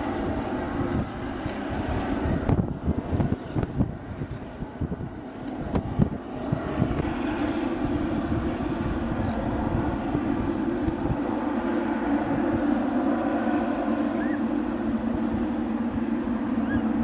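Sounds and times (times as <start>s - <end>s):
jet engines humming: 0.0s - 17.0s
wind buffeting microphone: 0.0s - 17.0s.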